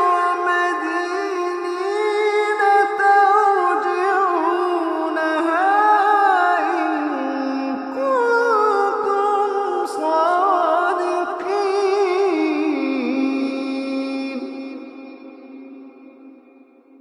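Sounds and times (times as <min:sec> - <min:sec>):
person chanting melodically: 0:00.0 - 0:17.0.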